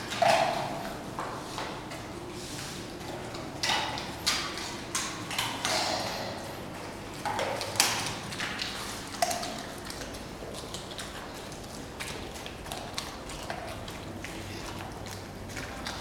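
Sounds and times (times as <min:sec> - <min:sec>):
dogs eating from metal bowls: 0:00.0 - 0:16.0.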